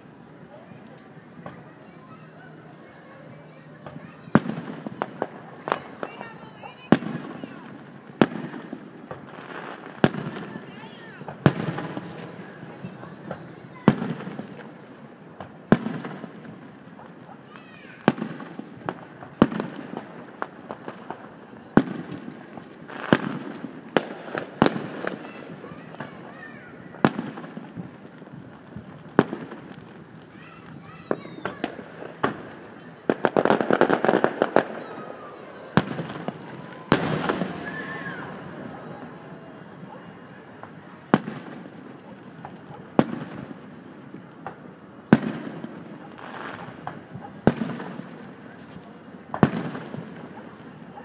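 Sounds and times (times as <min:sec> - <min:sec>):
firework shells bursting: 0:03.2 - 0:17.2, 0:18.0 - 0:50.9.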